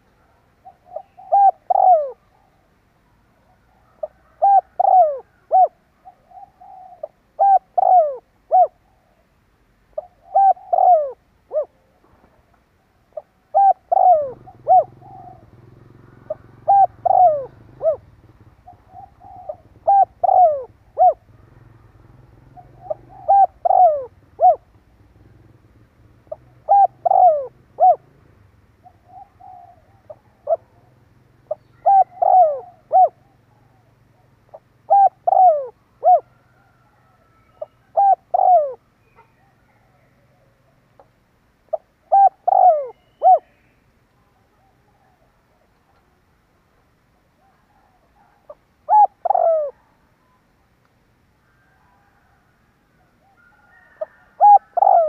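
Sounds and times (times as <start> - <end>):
dove cooing: 0.0 - 12.2, 13.0 - 43.8, 47.2 - 50.5, 51.6 - 55.0.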